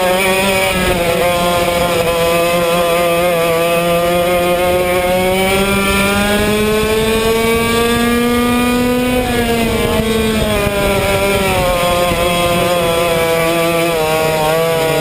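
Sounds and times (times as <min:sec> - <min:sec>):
kart engine revving: 0:00.0 - 0:15.0.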